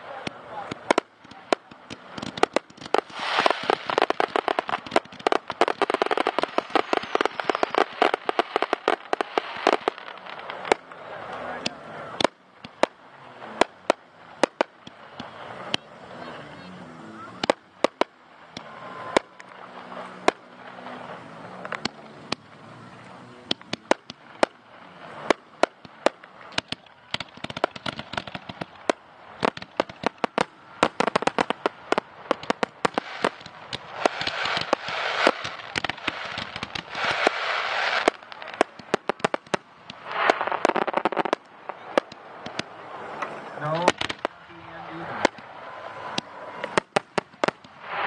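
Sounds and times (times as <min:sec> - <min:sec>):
fireworks bangs and pops: 0:00.0 - 0:48.0
fireworks crackling: 0:00.0 - 0:48.0.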